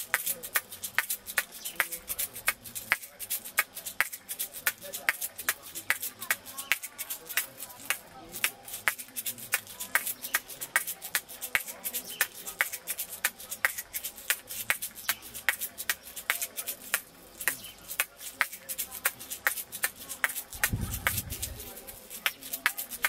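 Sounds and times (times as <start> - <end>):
sharp clicks and ticks: 0.1 - 23.0.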